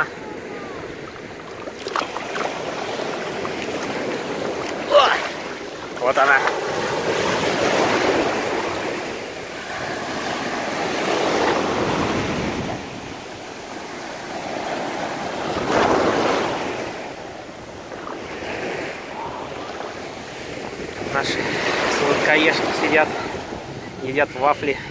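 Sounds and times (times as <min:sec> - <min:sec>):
waves breaking on a beach: 0:00.0 - 0:24.9.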